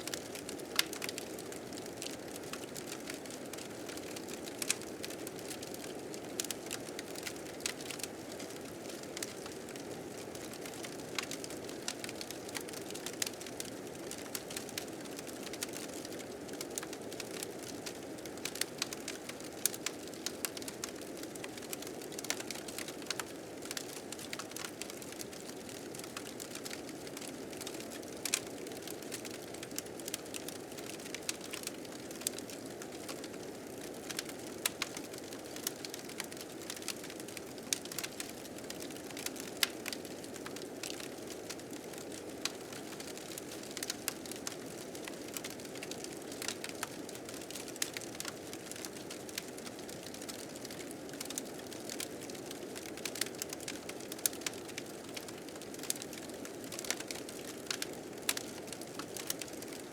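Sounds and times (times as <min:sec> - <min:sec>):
wood fire crackling and popping: 0:00.1 - 0:59.9.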